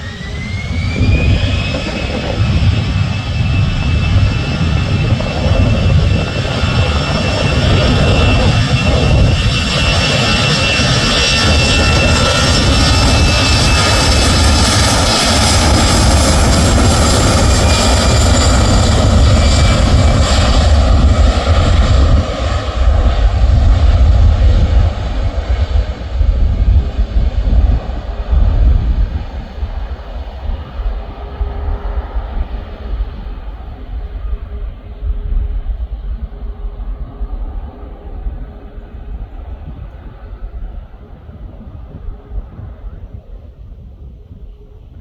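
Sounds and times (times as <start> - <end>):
airliner engine low rumble: 0.0 - 45.0
high-pitched engine whine: 0.0 - 45.0.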